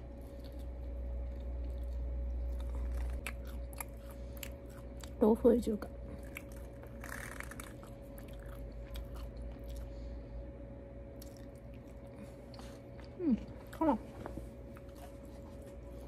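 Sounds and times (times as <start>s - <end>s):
person chewing food: 0.0s - 5.2s, 6.0s - 10.2s, 11.1s - 16.0s
steady background hum: 0.0s - 16.0s.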